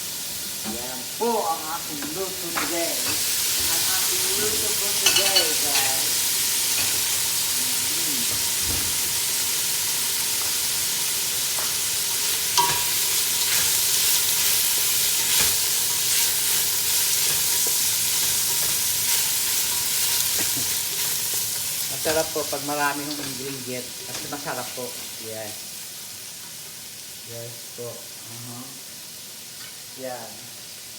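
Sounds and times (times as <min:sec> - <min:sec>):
chicken sizzling in oil: 0:00.0 - 0:30.9.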